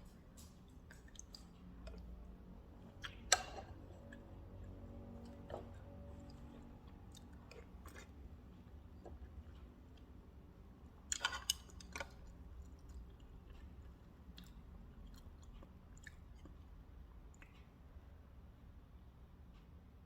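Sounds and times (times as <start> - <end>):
mouth clicks and crunches: 0.0 - 10.2, 10.9 - 17.7
person chewing food: 0.0 - 17.8
low steady hum: 0.0 - 20.0.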